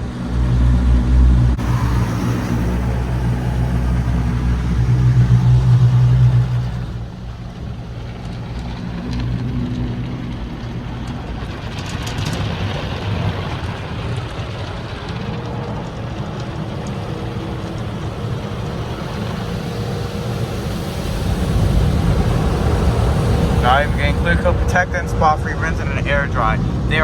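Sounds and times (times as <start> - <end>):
car wash equipment humming: 0.0 - 27.0
water spraying over car: 0.0 - 27.0.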